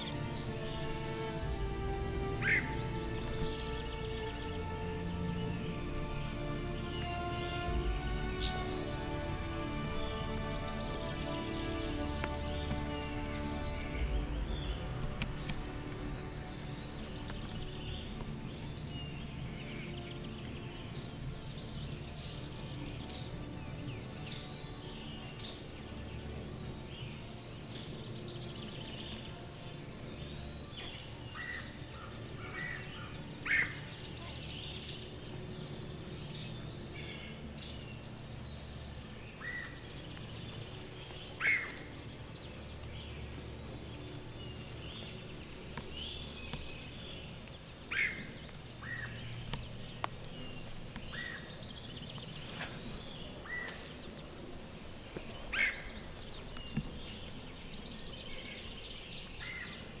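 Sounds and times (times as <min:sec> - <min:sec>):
songbirds singing: 0:00.0 - 1:00.0.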